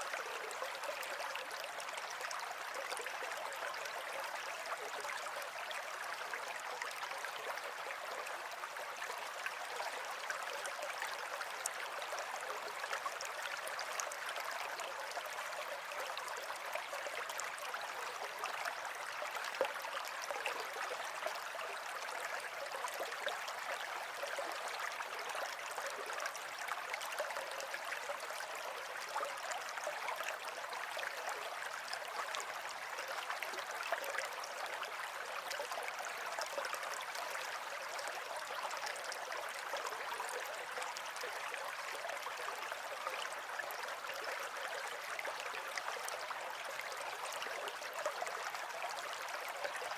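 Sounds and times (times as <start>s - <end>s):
stream water flowing: 0.0s - 49.9s.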